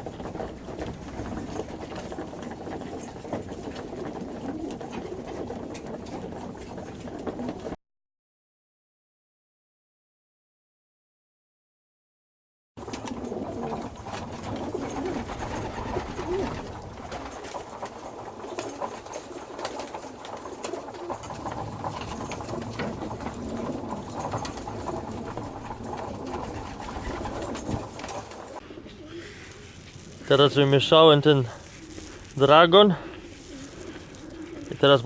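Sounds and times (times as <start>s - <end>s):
pigeons cooing: 0.0s - 7.8s, 12.8s - 30.2s, 31.4s - 35.0s.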